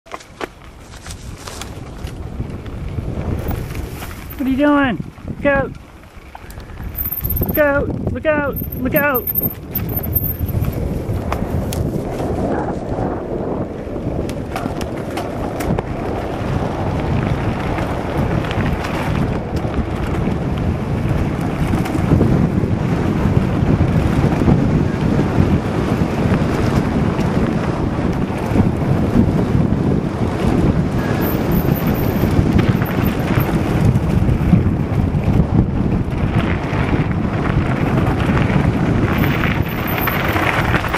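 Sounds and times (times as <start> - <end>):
wind buffeting microphone: 0.3 - 40.9.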